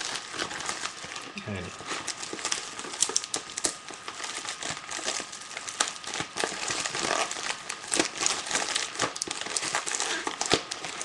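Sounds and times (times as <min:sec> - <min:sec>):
package crinkling: 0:00.0 - 0:11.0.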